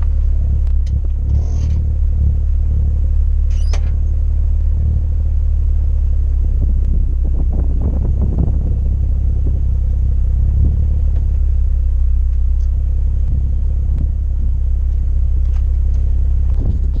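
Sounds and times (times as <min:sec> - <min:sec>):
car engine idling deep rumble: 0:00.0 - 0:17.0.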